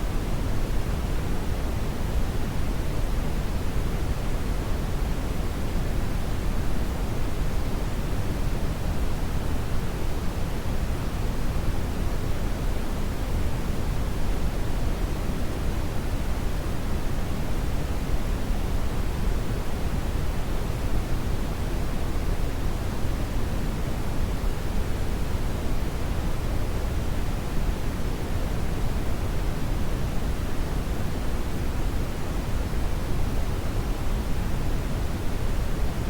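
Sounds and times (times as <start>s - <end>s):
brown noise hiss: 0.0s - 36.0s.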